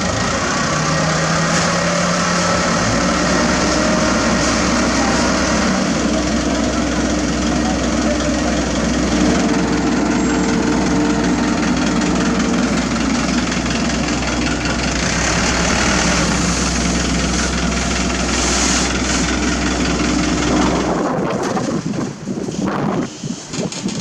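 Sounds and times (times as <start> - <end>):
diesel engine hum: 0.0 - 23.8.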